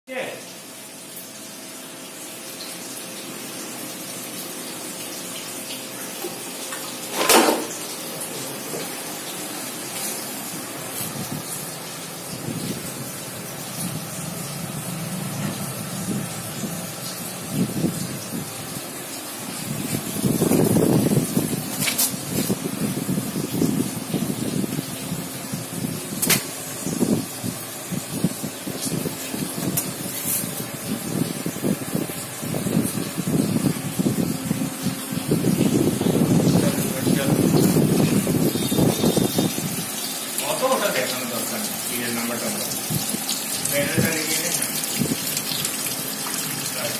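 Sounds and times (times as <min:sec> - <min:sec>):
grinding machine hiss and hum: 0:00.5 - 0:46.9.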